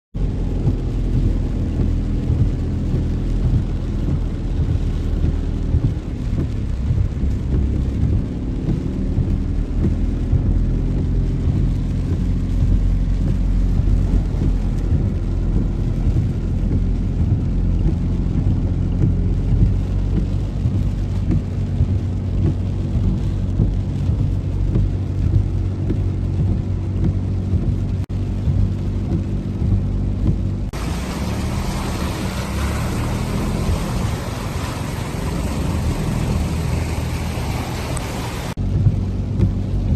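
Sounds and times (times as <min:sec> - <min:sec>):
heavy rain: 0:00.2 - 0:39.9
vehicle engines on flooded road: 0:00.2 - 0:39.9.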